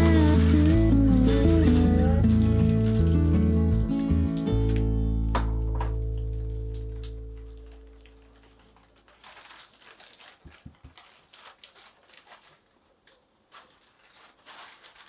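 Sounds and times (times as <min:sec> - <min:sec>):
rustling: 0:00.0 - 0:04.9, 0:05.9 - 0:15.0.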